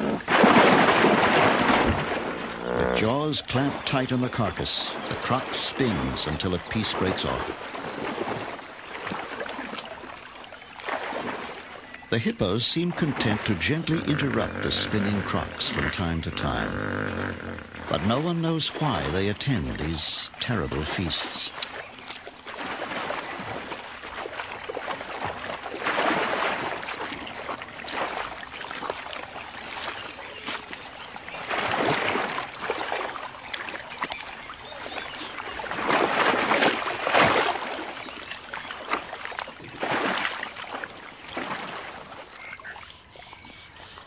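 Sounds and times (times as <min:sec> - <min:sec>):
water and mud splashing: 0:00.0 - 0:44.0.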